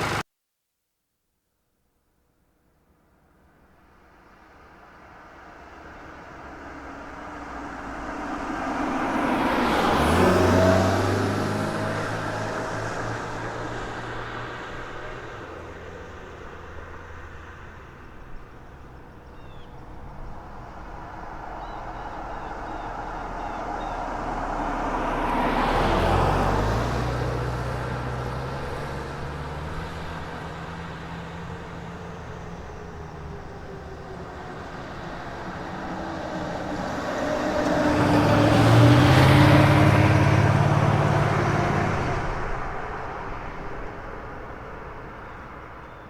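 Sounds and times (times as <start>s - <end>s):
vehicle engine passing by: 0.0s - 0.2s, 5.1s - 46.0s.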